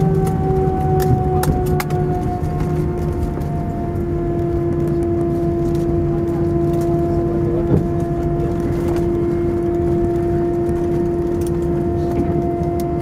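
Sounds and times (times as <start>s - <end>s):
aircraft cabin rumble: 0.0s - 13.0s
engine hum: 0.0s - 13.0s.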